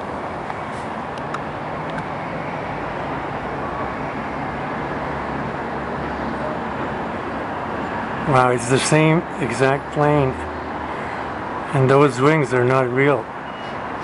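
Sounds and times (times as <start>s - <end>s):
rushing background noise: 0.0s - 14.0s.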